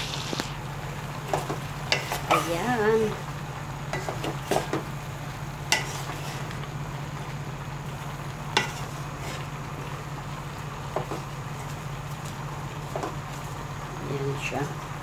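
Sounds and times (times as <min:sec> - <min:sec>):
faint sizzle: 0:00.0 - 0:15.0
wooden spatula stirring in metal pot: 0:00.0 - 0:15.0.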